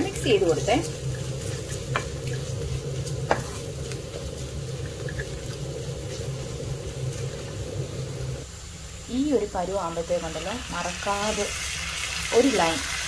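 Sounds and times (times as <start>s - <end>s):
steady low hum: 0.0s - 11.4s
food sizzling in a frying pan: 0.0s - 13.0s.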